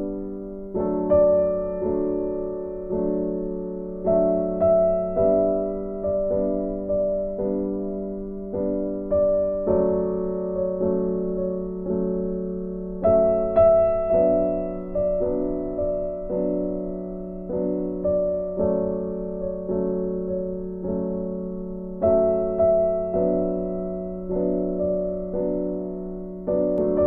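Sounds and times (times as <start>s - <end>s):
soft piano melody: 0.0s - 27.0s.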